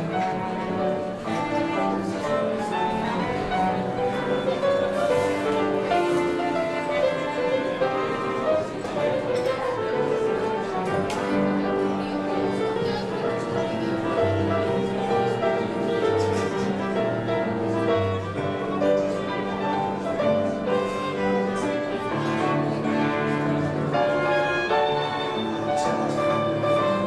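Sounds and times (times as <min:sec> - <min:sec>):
slow classical instrumental music: 0:00.0 - 0:27.0.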